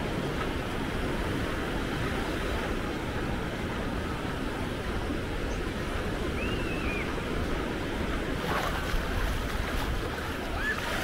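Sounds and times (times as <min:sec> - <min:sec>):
surf washing up a beach: 0:00.0 - 0:11.0
wind rumbling on microphone: 0:00.0 - 0:11.0.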